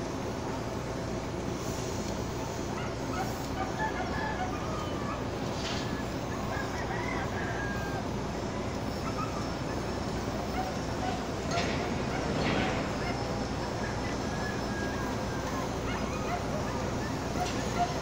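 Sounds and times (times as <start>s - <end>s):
ship diesel engine drone: 0.0s - 18.0s.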